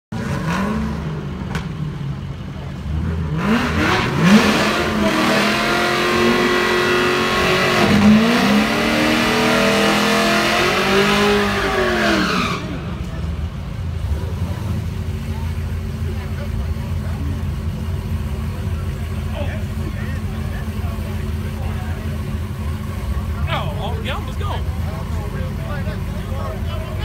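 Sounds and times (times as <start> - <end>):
car engine revving: 0.1 - 27.0.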